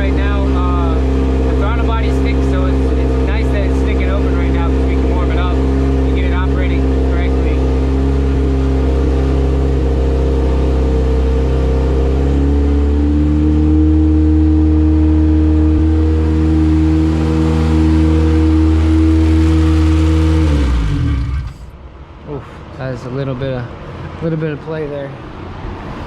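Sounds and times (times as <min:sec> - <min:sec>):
car engine idling: 0:00.0 - 0:22.8.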